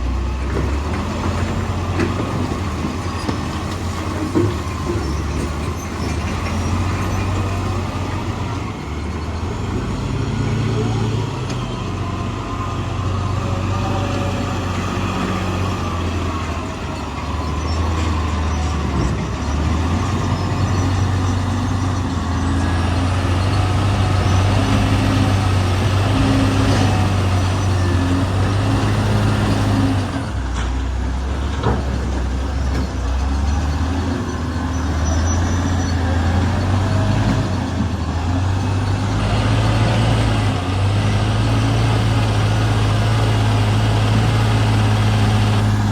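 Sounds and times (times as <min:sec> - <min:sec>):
diesel machinery engine running: 0:00.0 - 0:45.9.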